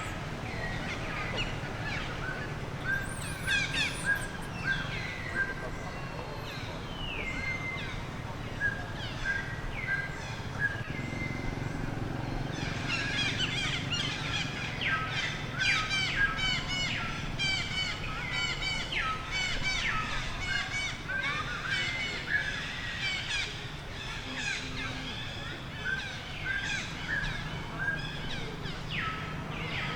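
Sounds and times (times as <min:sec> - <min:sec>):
birds whistling and chirping: 0:00.0 - 0:29.9.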